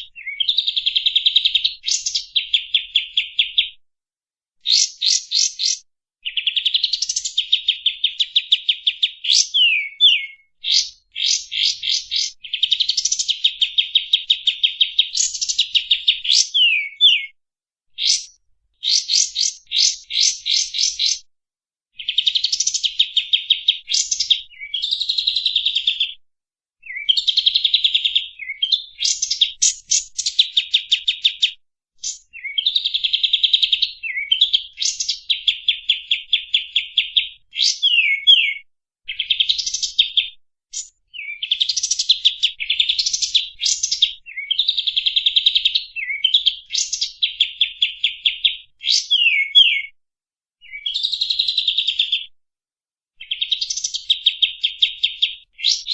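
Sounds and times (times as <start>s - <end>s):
songbird singing harsh phrases: 0.0s - 3.8s, 4.6s - 17.4s, 18.0s - 21.3s, 21.9s - 26.2s, 26.8s - 50.0s, 50.6s - 52.2s, 53.2s - 55.9s.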